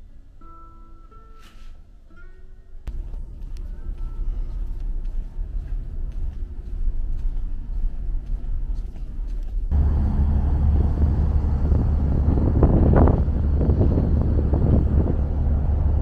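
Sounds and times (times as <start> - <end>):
ferry engines humming: 2.9 - 16.0
wind rumble on microphone: 2.9 - 16.0.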